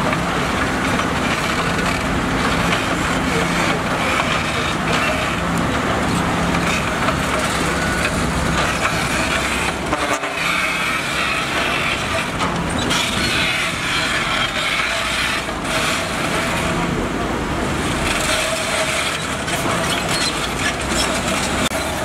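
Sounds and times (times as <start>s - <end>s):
diesel machinery engine hum: 0.0s - 22.0s
noisy machinery clatter: 0.0s - 22.0s.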